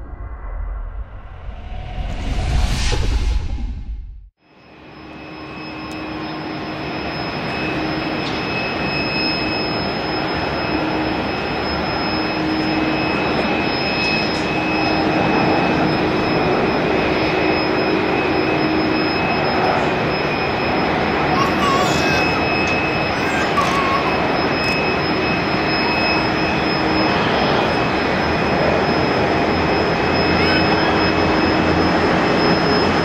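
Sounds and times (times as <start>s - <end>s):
jet engines whining: 4.5s - 33.0s.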